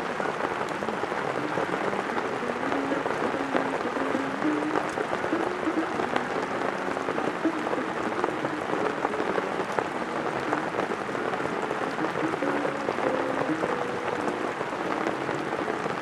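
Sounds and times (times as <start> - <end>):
faint jazz from small speaker: 0.0 - 16.0
heavy rain: 0.0 - 16.0.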